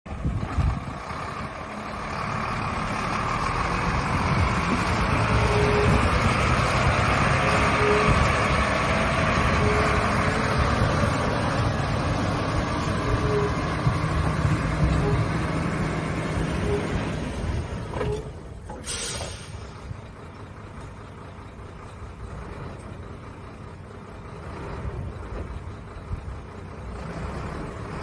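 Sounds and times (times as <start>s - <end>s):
diesel truck engine running: 0.1s - 28.0s.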